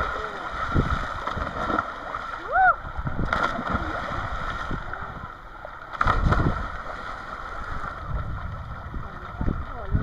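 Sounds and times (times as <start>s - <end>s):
water splashing around boat: 0.0s - 10.0s.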